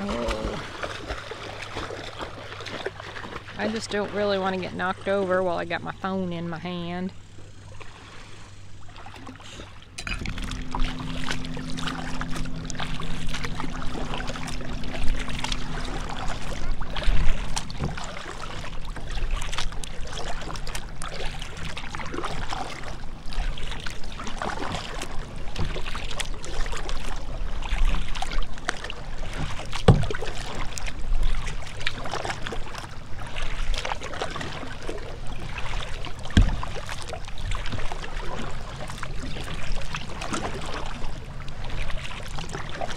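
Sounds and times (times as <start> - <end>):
small splashes: 0.0 - 5.7, 7.6 - 42.9
low steady hum: 0.0 - 42.9
water slapping kayak hull: 0.0 - 42.9.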